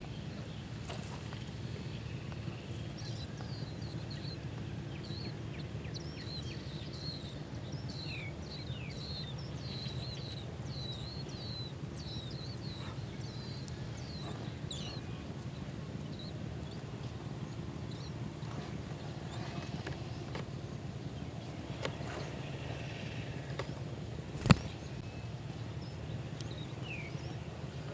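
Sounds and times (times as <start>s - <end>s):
small birds chirping: 0.0s - 27.9s.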